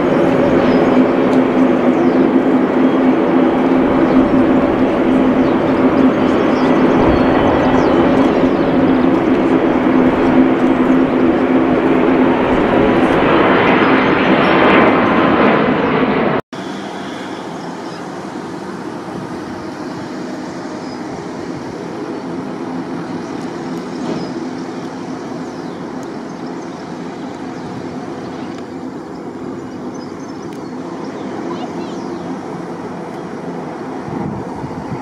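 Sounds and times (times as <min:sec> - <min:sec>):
jet engine roar: 0:00.0 - 0:35.0.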